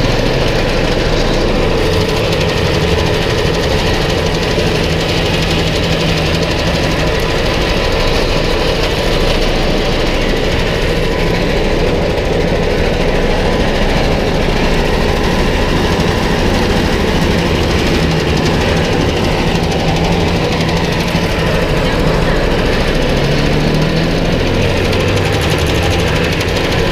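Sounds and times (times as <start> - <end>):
roller press mechanical din: 0.0 - 26.9
small petrol engine running: 0.0 - 26.9.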